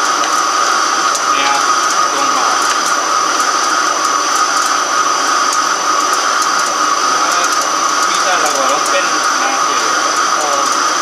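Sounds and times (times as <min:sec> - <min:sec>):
high steady whine: 0:00.0 - 0:11.0
lathe machining metal: 0:00.0 - 0:11.0.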